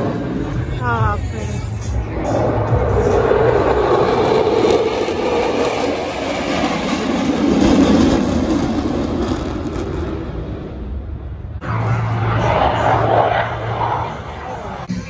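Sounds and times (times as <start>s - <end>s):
jet roar passing overhead: 0.0s - 15.0s.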